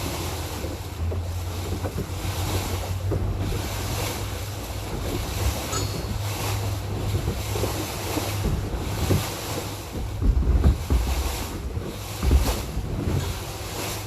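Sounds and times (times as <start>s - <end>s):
sea water washing: 0.0s - 14.0s
wind buffeting microphone: 0.0s - 14.0s.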